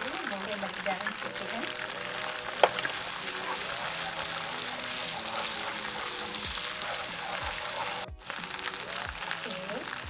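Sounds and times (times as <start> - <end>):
oil sizzling in a wok: 0.0 - 10.0.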